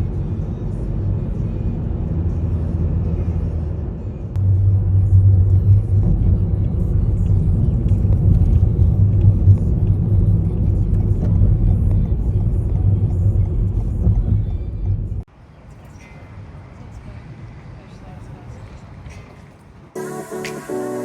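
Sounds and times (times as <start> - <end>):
vehicle rumbling in motion: 0.0 - 20.0.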